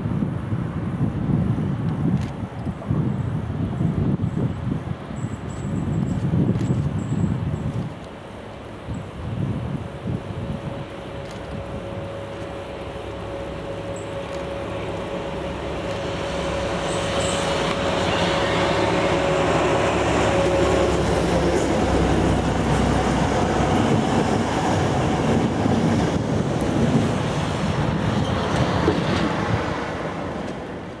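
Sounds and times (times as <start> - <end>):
diesel locomotive engine: 0.0 - 31.0.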